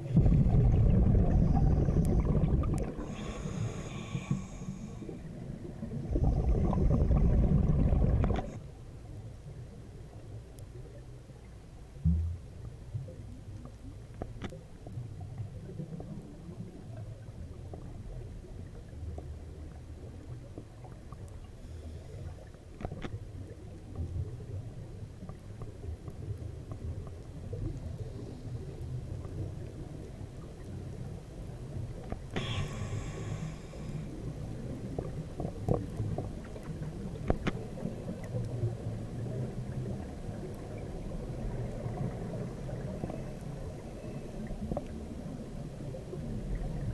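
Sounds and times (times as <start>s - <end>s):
underwater rumble of water and bubbles: 0.0s - 46.9s.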